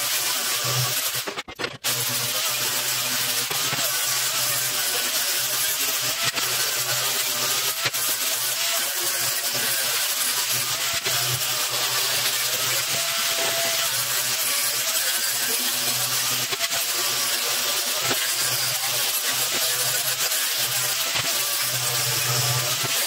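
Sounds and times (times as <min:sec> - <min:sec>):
angle grinder grinding steel: 0:00.0 - 0:23.0
grinder motor hum: 0:00.0 - 0:23.0.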